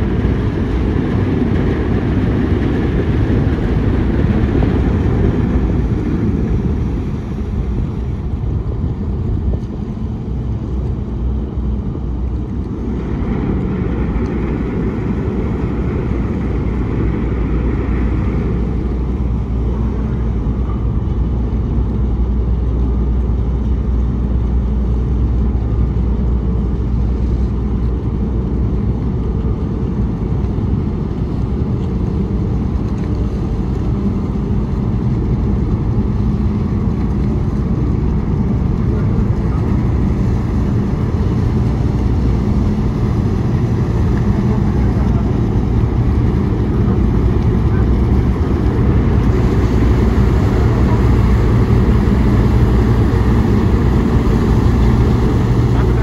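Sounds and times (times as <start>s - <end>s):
propeller wash churning water: 0.0s - 56.0s
ship engines rumbling: 0.0s - 56.0s.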